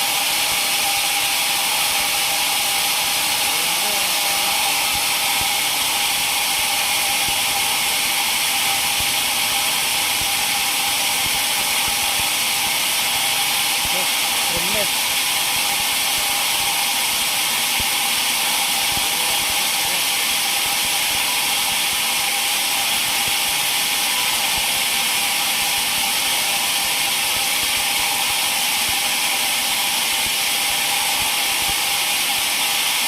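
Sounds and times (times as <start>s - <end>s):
sawmill saw running: 0.0s - 33.0s.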